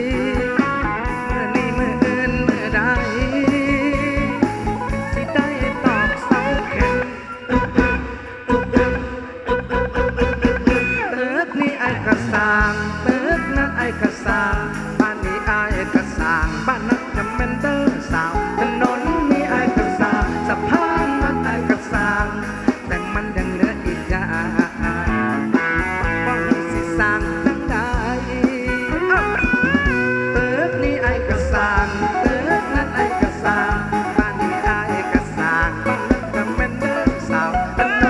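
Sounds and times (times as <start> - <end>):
drum kit beat: 0.0 - 11.1, 12.1 - 38.0
live band playing: 0.0 - 38.0.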